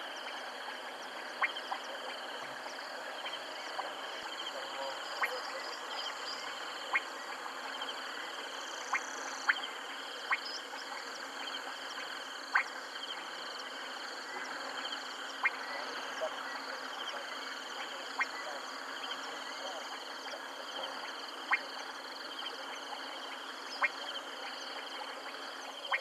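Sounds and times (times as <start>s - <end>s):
click-like frog calls: 0.0s - 26.0s
insects trilling: 0.0s - 26.0s.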